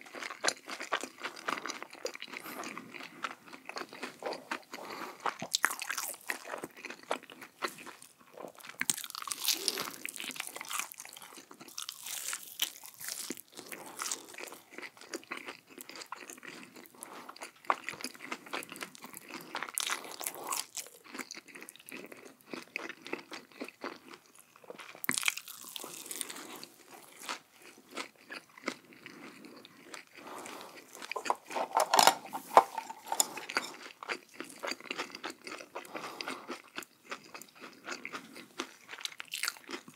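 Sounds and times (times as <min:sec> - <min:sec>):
crunchy bites and chewing: 0:00.0 - 0:39.9.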